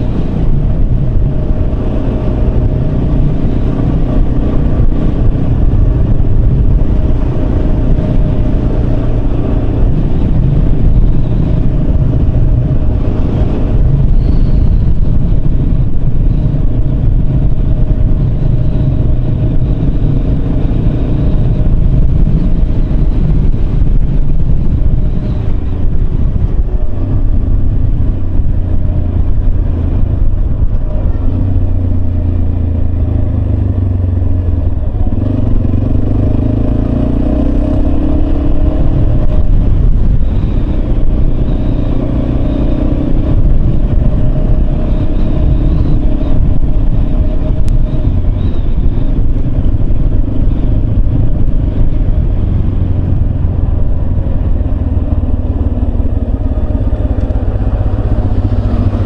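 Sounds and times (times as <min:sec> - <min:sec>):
low rumble: 0:00.0 - 0:59.0
motorcycle engine running: 0:00.0 - 0:59.0.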